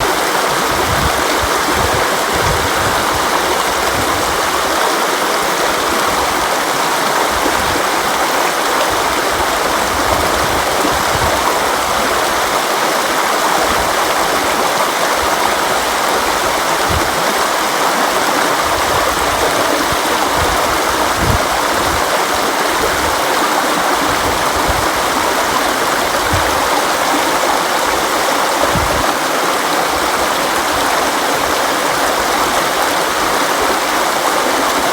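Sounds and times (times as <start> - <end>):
low water gurgles: 0.0 - 34.9
river water rushing: 0.0 - 34.9.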